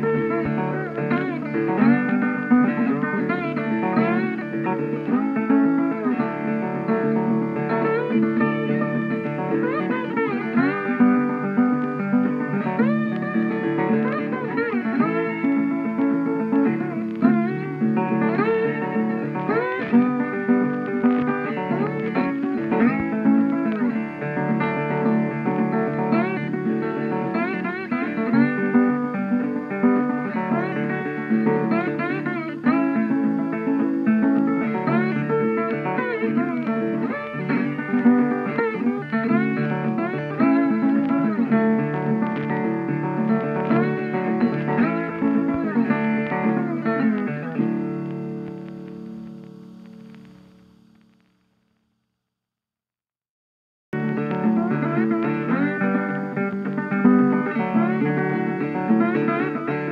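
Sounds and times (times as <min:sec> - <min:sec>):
instrumental music with sliding notes: 0:00.0 - 0:51.3, 0:54.0 - 0:59.9.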